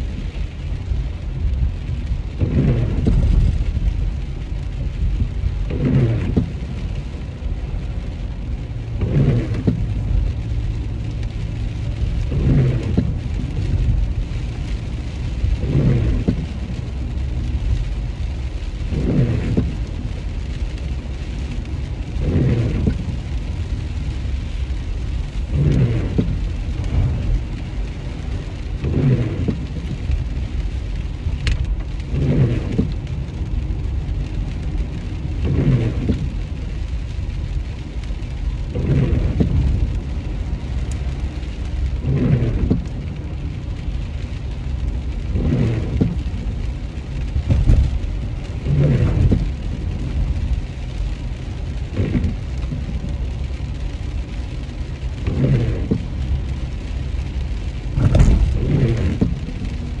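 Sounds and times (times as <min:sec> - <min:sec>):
rain on car: 0:00.0 - 1:00.0
road rumble inside car: 0:00.0 - 1:00.0
windshield wipers swishing: 0:00.0 - 1:00.0.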